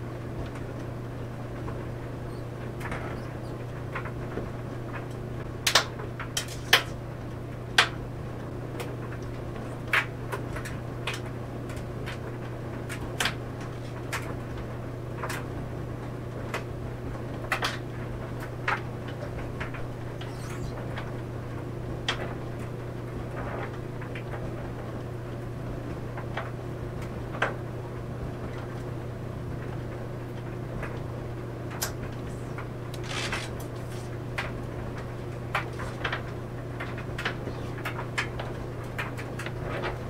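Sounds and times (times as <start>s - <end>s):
clothes dryer humming: 0.0s - 40.0s.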